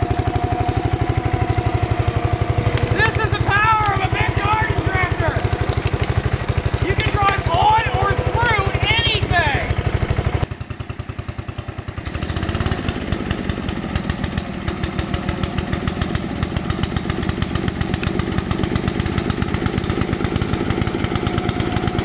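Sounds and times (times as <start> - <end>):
riding mower engine putter: 0.0 - 22.0.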